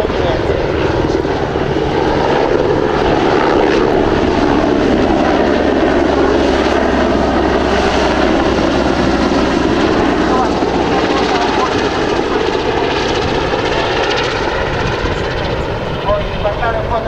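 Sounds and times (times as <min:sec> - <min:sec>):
helicopter rotor and turbine noise: 0:00.0 - 0:17.0.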